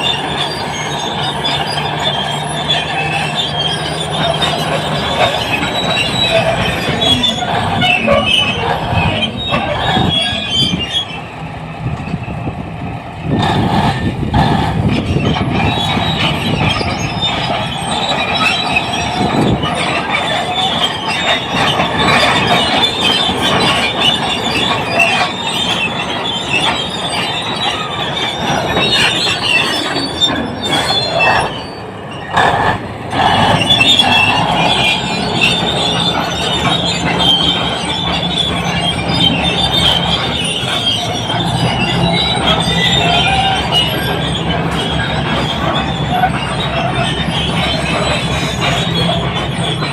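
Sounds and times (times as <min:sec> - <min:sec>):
bulldozer diesel engine: 0:00.0 - 0:49.9
steel tracks squealing: 0:00.0 - 0:49.9.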